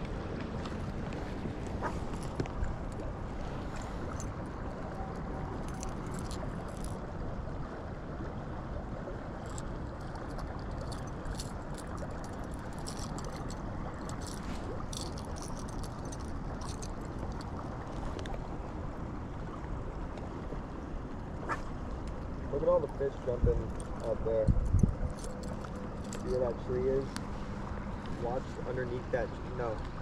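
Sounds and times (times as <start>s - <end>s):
boat engine rumbling: 0.0s - 30.0s.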